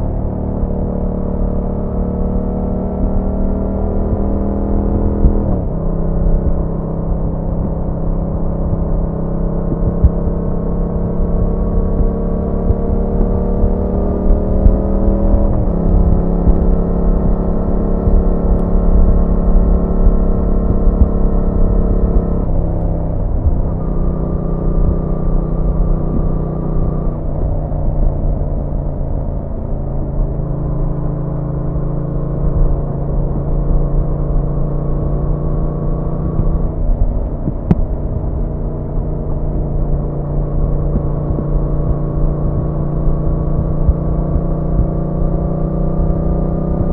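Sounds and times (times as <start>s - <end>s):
motorcycle engine running: 0.0s - 46.9s
wind and road noise: 0.0s - 46.9s.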